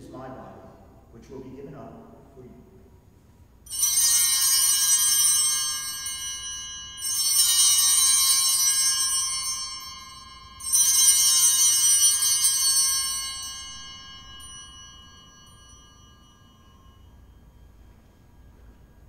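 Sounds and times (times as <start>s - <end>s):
altar bells ringing: 3.6s - 19.0s.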